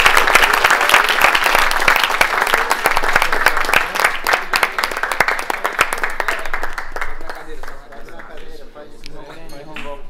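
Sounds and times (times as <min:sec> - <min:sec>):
people applauding: 0:00.0 - 0:08.6.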